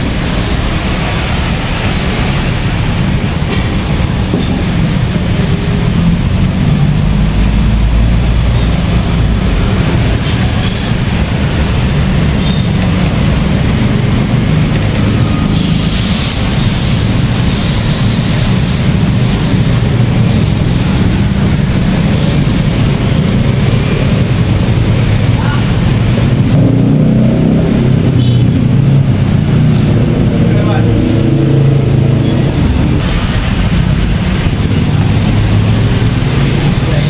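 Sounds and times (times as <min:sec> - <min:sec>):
wok burner roaring: 0:00.0 - 0:37.0.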